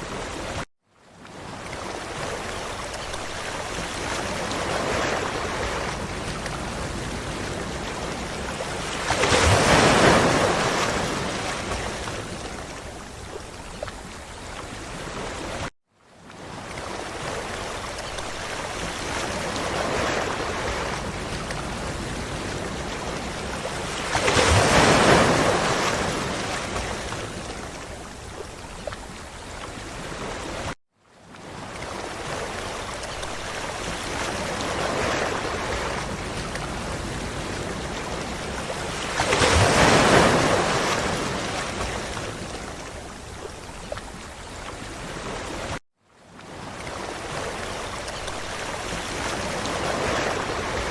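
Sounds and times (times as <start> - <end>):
ocean surf washing onto beach: 0.0 - 50.9.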